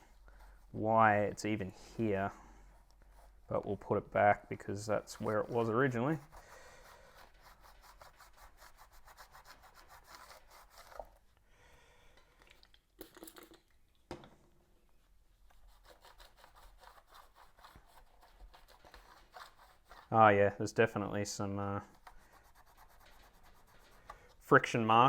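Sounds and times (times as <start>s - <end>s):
faint rubbing and scratching: 0.0s - 11.3s, 15.5s - 25.0s.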